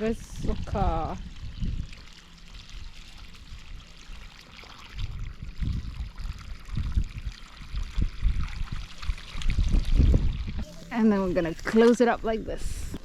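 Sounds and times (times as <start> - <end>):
water running along furrow: 0.0 - 13.0.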